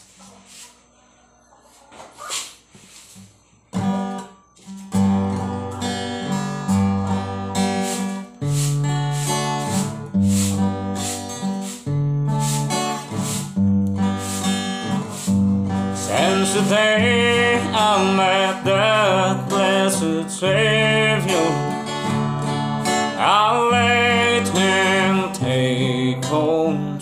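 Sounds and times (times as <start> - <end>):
acoustic guitar strumming chords: 3.7 - 27.0.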